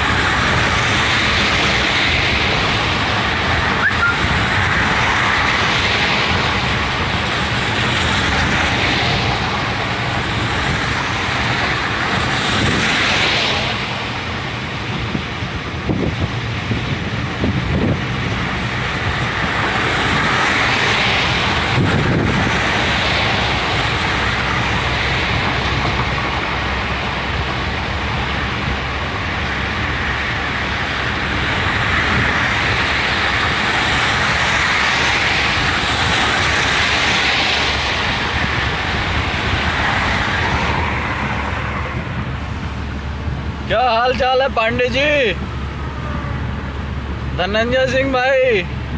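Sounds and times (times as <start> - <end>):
car road and wind noise: 0.0 - 48.9.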